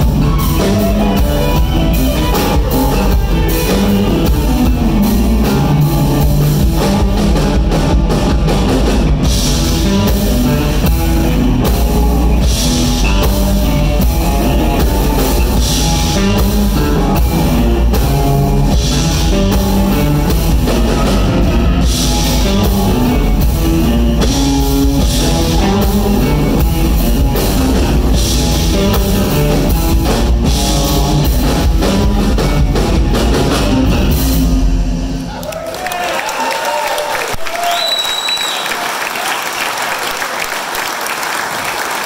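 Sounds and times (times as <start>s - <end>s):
funk-rock band playing: 0.0s - 35.4s.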